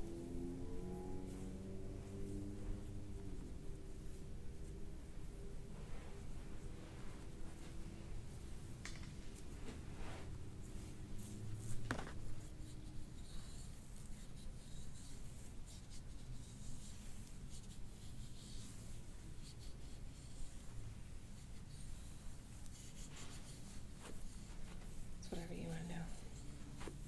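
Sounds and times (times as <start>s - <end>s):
hands rubbing on body: 1.2s - 27.0s.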